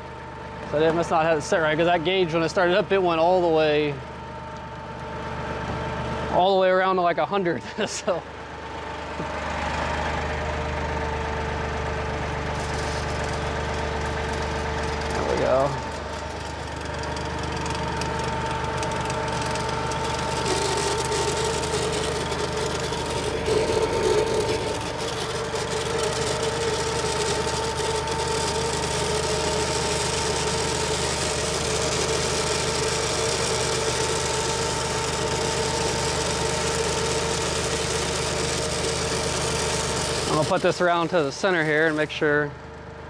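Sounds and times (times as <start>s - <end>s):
pump mechanical whine: 0.0s - 43.0s
tractor diesel engine running: 0.0s - 43.0s.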